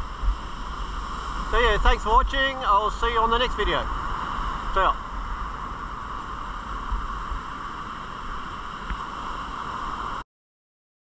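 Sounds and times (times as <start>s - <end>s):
ocean surf washing onto beach: 0.0s - 10.2s
wind rumbling on microphone: 0.0s - 10.2s.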